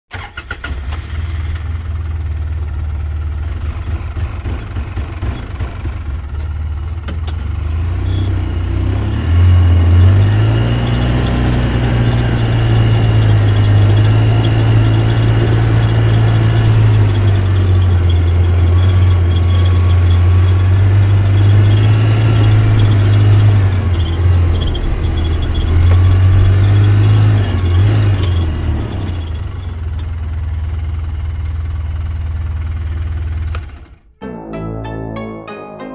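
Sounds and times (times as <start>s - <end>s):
tractor engine droning: 0.1s - 35.3s.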